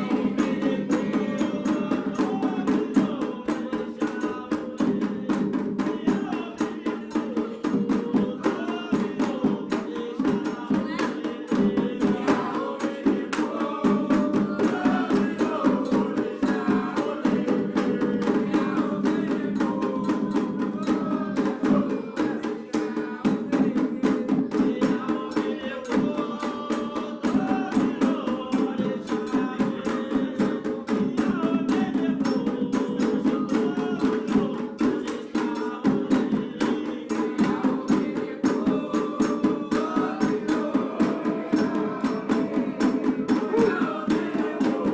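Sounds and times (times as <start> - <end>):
hand drums playing fast rhythm: 0.0 - 44.9
voices singing a chant: 0.0 - 44.9.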